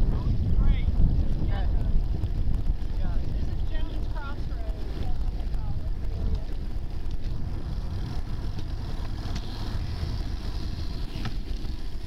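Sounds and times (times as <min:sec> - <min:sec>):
tyre and road noise: 0:00.0 - 0:12.0
wind buffeting microphone: 0:00.0 - 0:12.0.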